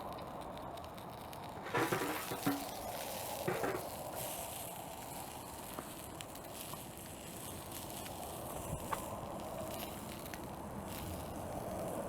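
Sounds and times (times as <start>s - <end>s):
faint fire crackles: 0.0s - 12.0s
wood fire burning: 0.0s - 12.0s.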